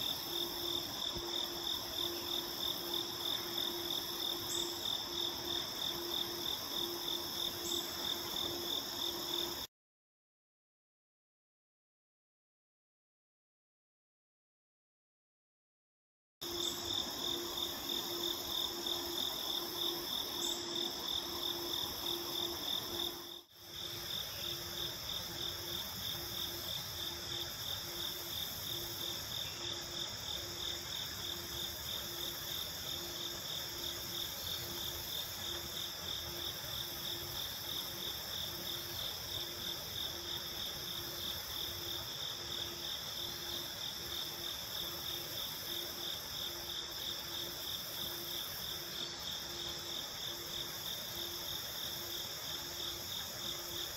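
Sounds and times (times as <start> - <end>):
insects trilling: 0.0 - 9.7, 16.4 - 53.9
lower pulsing insect note: 0.0 - 9.7, 16.4 - 51.4.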